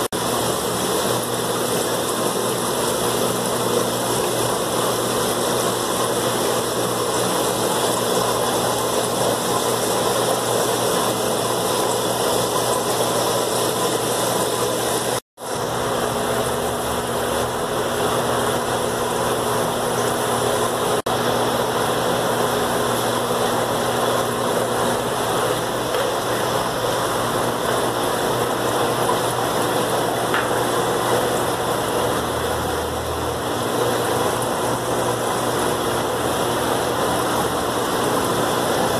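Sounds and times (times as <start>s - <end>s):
aquarium air pumps humming: 0.0s - 38.9s.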